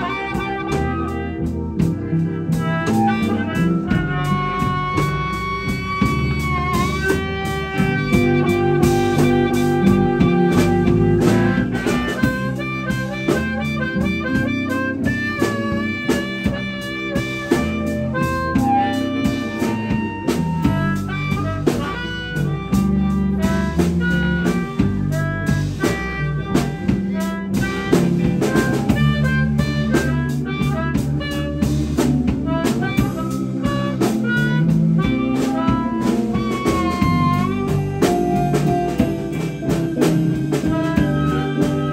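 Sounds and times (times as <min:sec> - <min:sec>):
amplified harmonica solo: 0:00.0 - 0:41.9
bass guitar: 0:00.0 - 0:41.9
drum kit: 0:00.0 - 0:41.9
electric guitar: 0:00.0 - 0:41.9.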